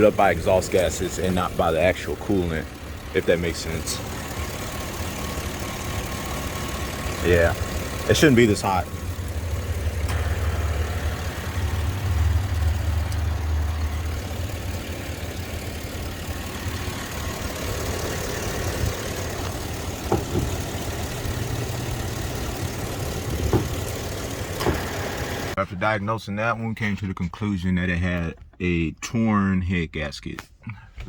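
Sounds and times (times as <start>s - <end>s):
truck engine idling: 0.0s - 26.9s.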